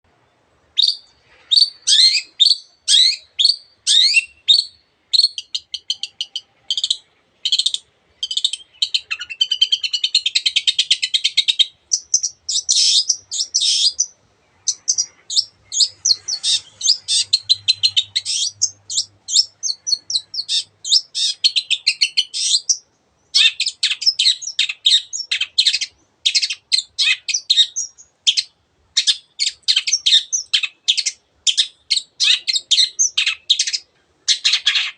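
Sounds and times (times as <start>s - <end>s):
bird singing fast varied song: 0.2s - 34.9s.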